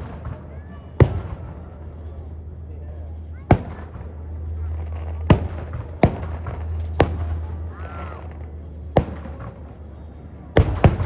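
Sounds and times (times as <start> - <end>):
fireworks booming: 0.0 - 2.5, 3.3 - 11.0.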